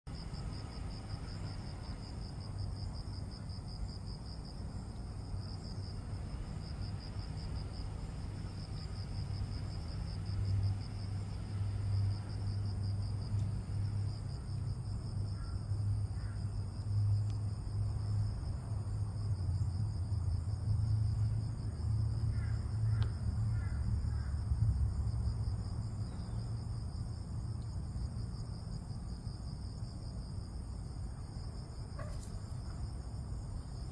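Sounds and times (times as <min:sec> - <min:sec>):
low steady rumble: 0:00.1 - 0:31.8
insects trilling: 0:00.1 - 0:33.9.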